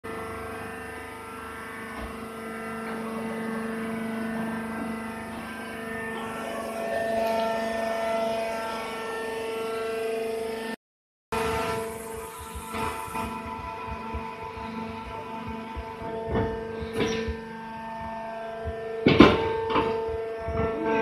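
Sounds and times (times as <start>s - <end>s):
baler machine drone: 0.1s - 21.0s.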